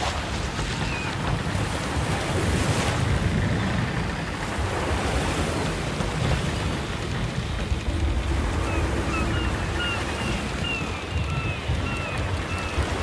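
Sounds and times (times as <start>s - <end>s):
ocean waves surf: 0.0s - 13.0s
wind: 0.0s - 13.0s.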